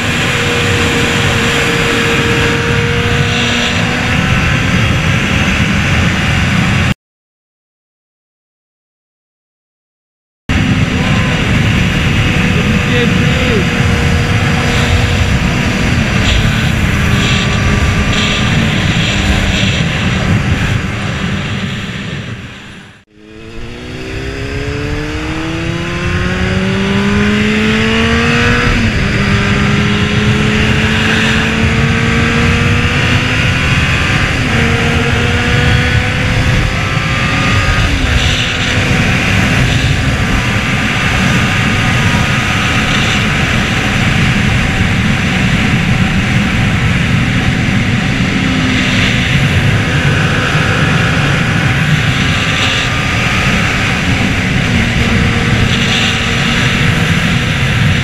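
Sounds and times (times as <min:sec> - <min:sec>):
wind rush: 0:00.0 - 0:06.9, 0:10.5 - 0:58.0
motorcycle engine at speed: 0:00.0 - 0:07.0, 0:10.5 - 0:58.0.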